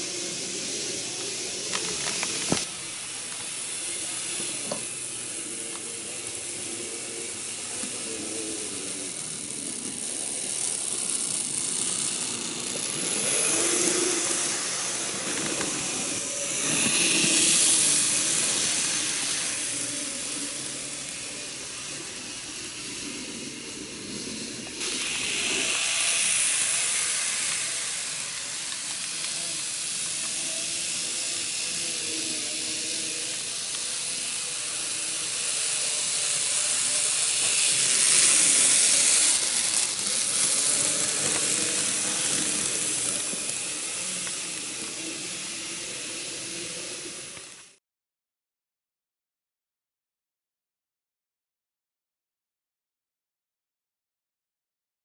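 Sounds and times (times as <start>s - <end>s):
model train rattling on track: 0.0s - 47.8s.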